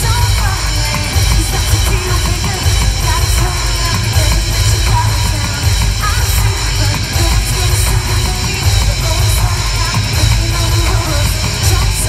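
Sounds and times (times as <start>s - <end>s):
bass: 0.0s - 12.0s
heavy drums: 0.0s - 12.0s
live rock band: 0.0s - 12.0s.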